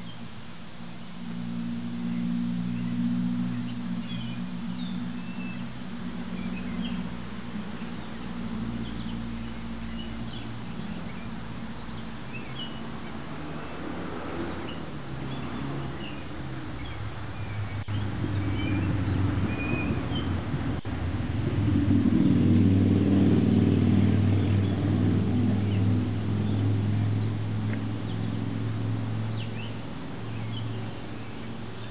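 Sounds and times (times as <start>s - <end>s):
low engine hum: 0.0s - 31.9s
songbirds chirping: 0.0s - 31.9s.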